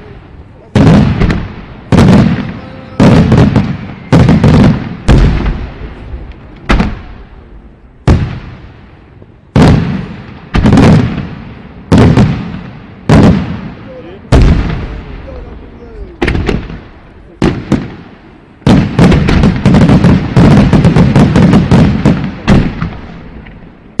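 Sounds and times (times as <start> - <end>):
fireworks booming: 0.0 - 24.0.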